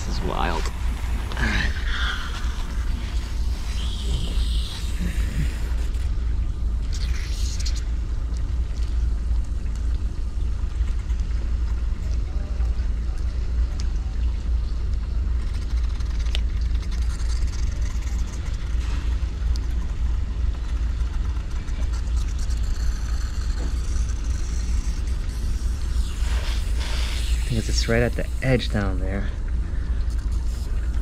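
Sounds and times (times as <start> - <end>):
low machinery rumble: 0.0 - 31.0.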